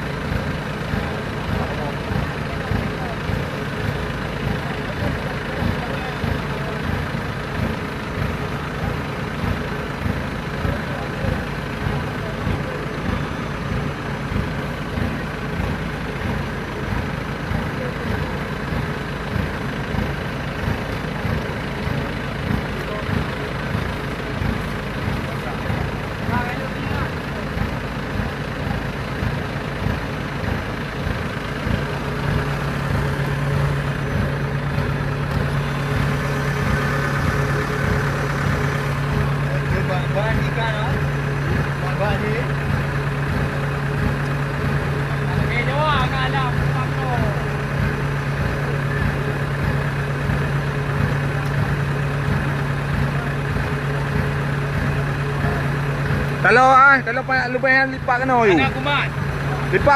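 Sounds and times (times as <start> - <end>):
combine harvester diesel engine: 0.0 - 59.9
steady low hum: 0.0 - 59.9.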